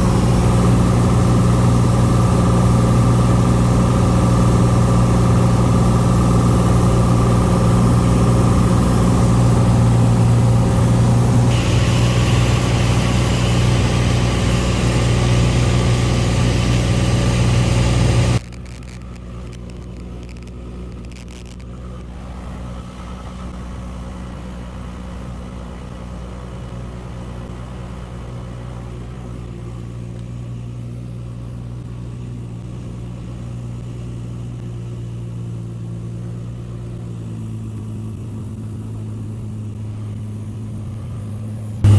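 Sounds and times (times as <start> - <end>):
light aircraft engine drone: 0.0 - 41.9.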